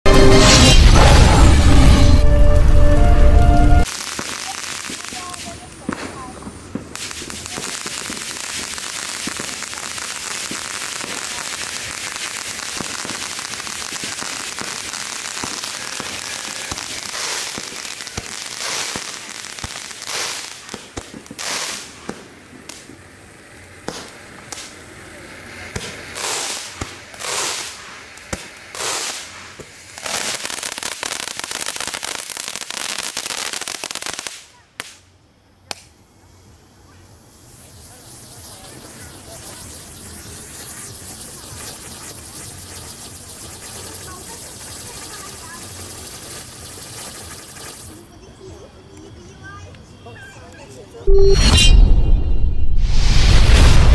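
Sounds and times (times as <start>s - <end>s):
firework fountain hissing: 0.0s - 51.0s.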